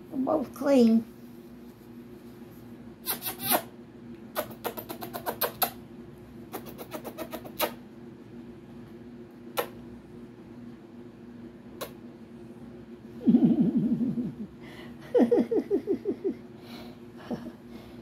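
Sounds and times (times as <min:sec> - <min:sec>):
box fan humming: 0:00.0 - 0:18.0.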